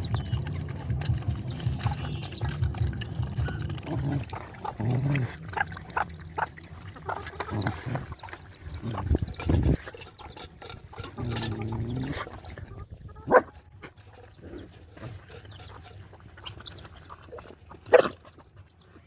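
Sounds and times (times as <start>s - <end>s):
dogs growling low: 0.0s - 18.8s
dogs chewing and smacking: 0.0s - 19.0s.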